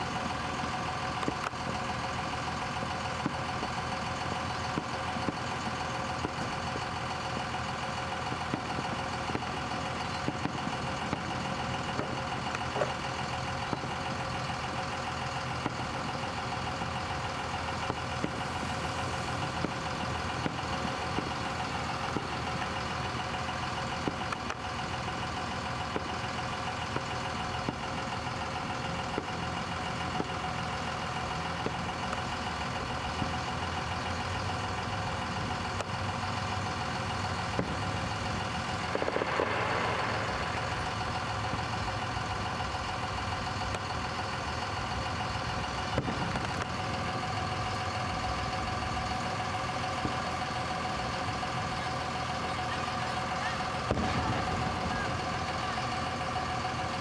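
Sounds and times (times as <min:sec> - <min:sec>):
engine-like hum: 0:00.0 - 0:57.0.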